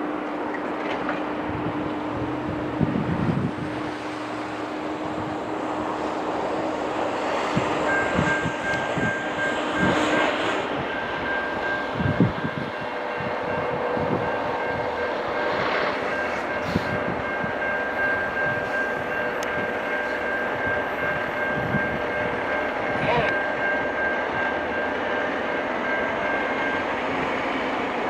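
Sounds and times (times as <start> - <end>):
diesel locomotive engine running: 0.0 - 28.0
thin high whine: 1.5 - 27.3.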